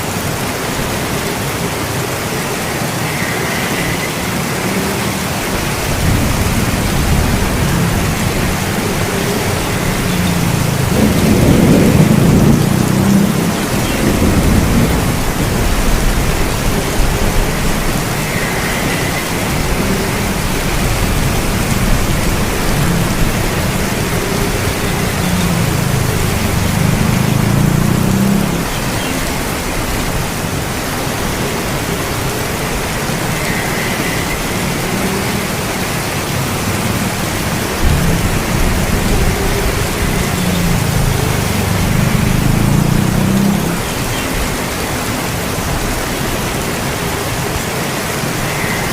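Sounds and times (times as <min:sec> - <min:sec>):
steady rain: 0:00.0 - 0:48.9
thunder rumbling: 0:02.6 - 0:47.6.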